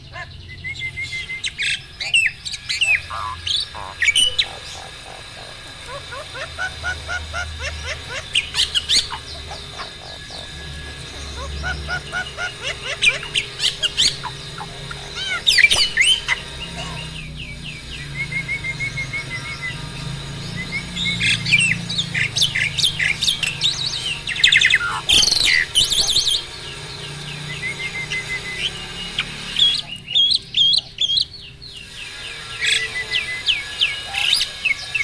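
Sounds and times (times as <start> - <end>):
starling singing: 0.0 - 35.0.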